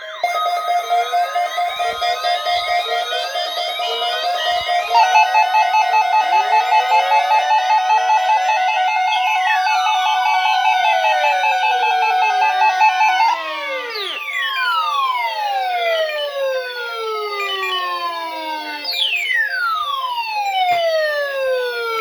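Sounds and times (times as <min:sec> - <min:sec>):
siren-like sweeps: 0:00.0 - 0:19.1
fast warbling alarm tone: 0:00.0 - 0:19.4.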